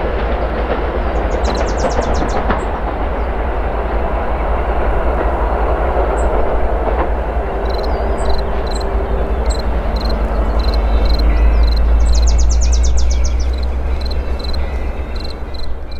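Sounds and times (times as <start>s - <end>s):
diesel train engine rumble: 0.0s - 15.9s
rail and wheel noise: 0.0s - 15.9s.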